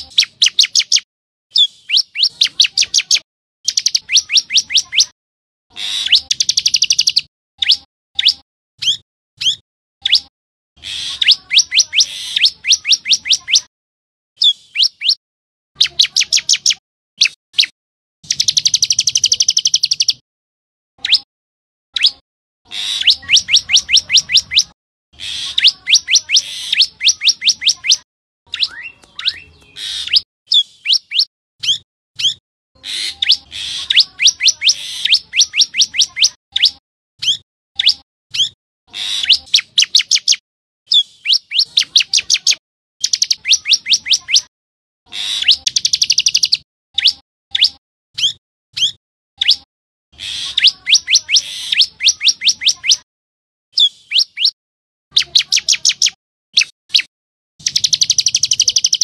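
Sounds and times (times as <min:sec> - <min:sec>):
bird singing high rapid notes: 0:00.0 - 0:05.0, 0:06.0 - 0:13.7, 0:14.4 - 0:15.2, 0:15.8 - 0:20.2, 0:22.8 - 0:38.6, 0:39.2 - 0:44.5, 0:45.4 - 0:53.0, 0:53.8 - 0:59.0.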